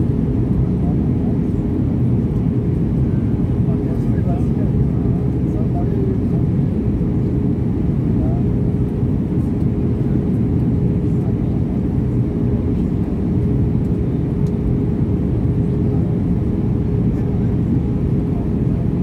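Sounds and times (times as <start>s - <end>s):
constant steady hum: 0.0s - 19.0s
jet engine roar in cabin: 0.0s - 19.0s.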